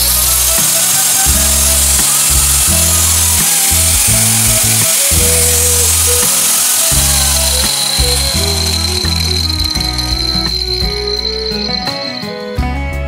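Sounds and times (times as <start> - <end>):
angle grinder whining: 0.0 - 12.4
background music with bass: 0.0 - 13.0.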